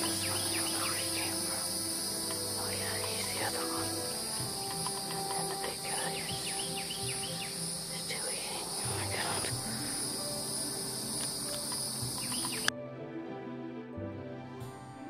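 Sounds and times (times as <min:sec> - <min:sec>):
bird chirps: 0:00.0 - 0:12.7
insects trilling: 0:00.0 - 0:12.7.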